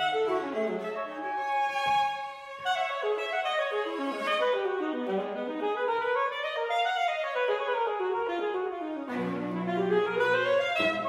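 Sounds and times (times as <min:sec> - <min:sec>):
saxophone playing quick runs: 0:00.0 - 0:11.0.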